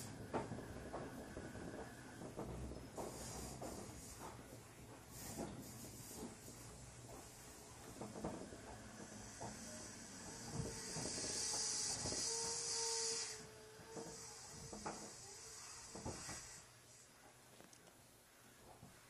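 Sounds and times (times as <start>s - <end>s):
train air hiss: 0.0s - 17.3s.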